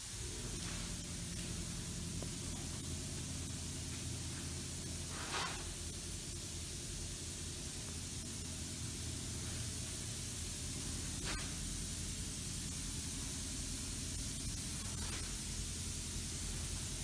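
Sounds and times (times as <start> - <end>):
ventilation fans hissing and humming: 0.0 - 17.0.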